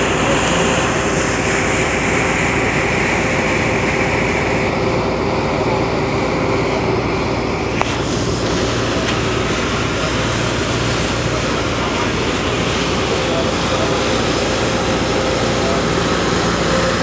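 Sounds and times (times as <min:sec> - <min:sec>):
boat engine droning: 0:00.0 - 0:17.0
water rushing past hull: 0:00.0 - 0:17.0.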